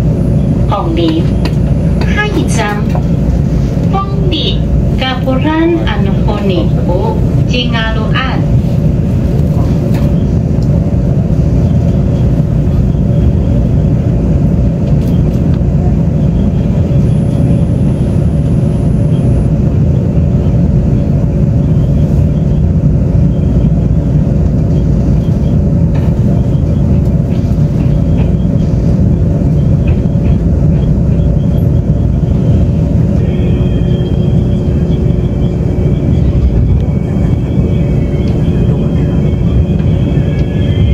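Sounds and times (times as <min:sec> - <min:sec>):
high steady whine: 0:00.0 - 0:40.9
train rumbling at speed: 0:00.0 - 0:40.9.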